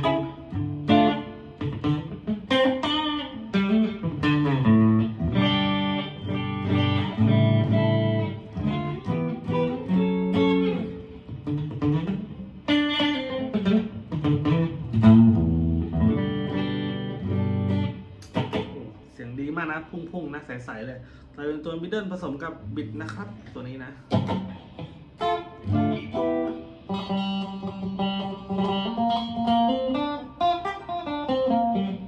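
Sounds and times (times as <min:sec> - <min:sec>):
clean electric guitar picking: 0:00.0 - 0:19.2, 0:22.6 - 0:32.0.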